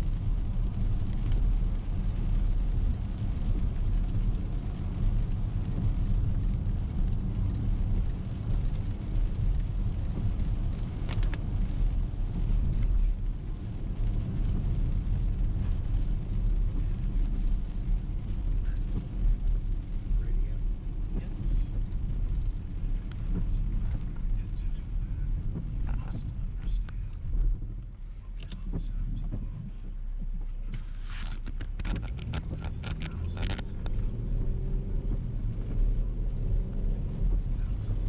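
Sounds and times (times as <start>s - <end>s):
car driving on wet road: 0.0s - 38.0s.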